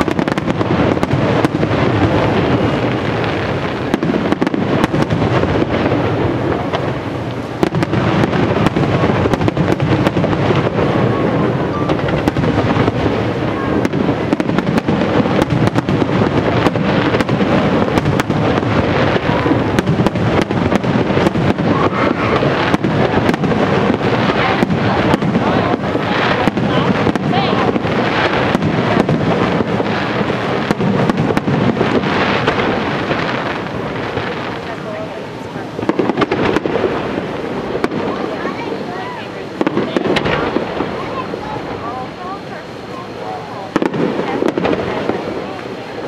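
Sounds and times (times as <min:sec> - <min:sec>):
firework booms: 0:00.0 - 0:46.0
firework cracks: 0:00.0 - 0:46.0.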